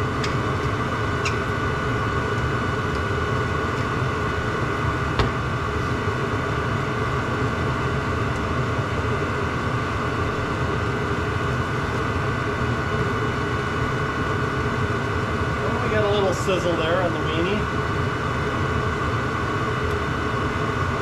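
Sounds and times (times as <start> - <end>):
heater running: 0.0 - 21.0.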